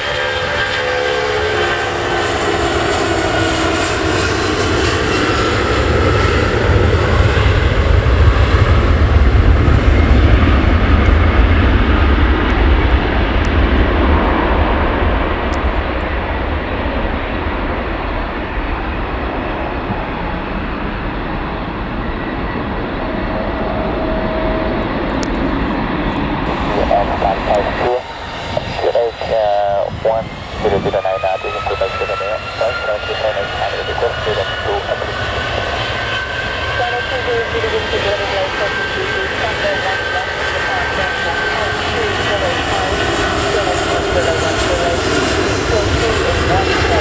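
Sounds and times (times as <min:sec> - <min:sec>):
airliner engine rumble: 0:00.0 - 0:47.0
jet engine whine: 0:00.0 - 0:47.0.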